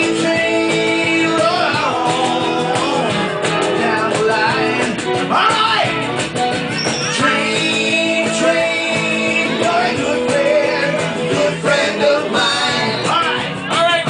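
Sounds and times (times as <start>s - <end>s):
upbeat live band with guitar: 0.0s - 14.0s.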